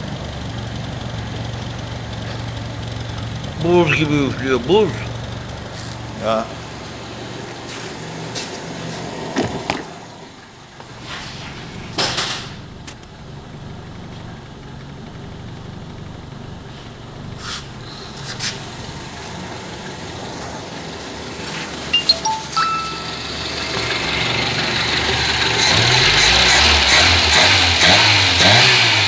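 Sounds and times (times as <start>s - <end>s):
car engine idling: 0.0s - 22.0s, 23.2s - 27.3s.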